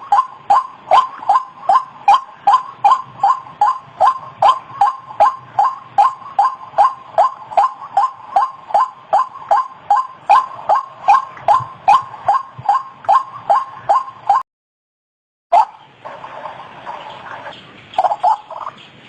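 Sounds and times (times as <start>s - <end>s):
bird calling repeated notes: 0.0s - 14.4s, 15.5s - 19.0s.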